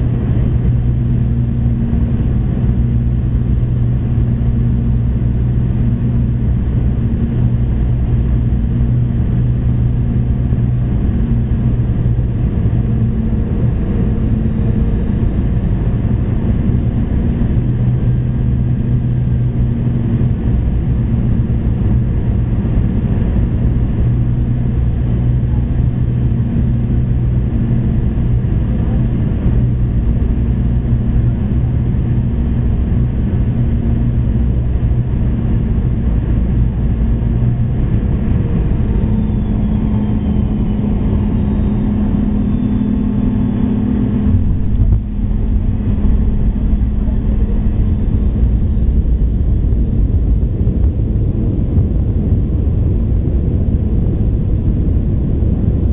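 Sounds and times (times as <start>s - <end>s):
jet engine cabin drone: 0.0s - 55.9s.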